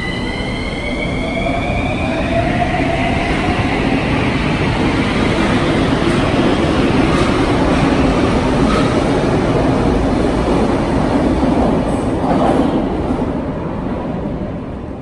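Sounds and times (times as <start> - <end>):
train wheels rumbling on rail: 2.4 - 14.4.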